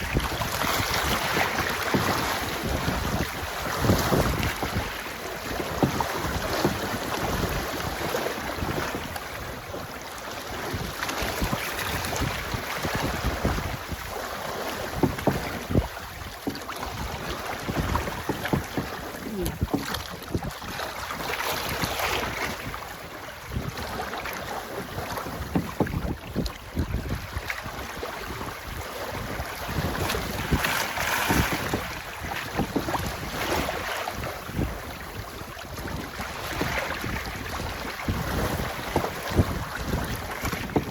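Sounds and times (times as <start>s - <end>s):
water rushing and splashing: 0.0s - 40.9s
wind buffeting microphone: 0.0s - 40.9s.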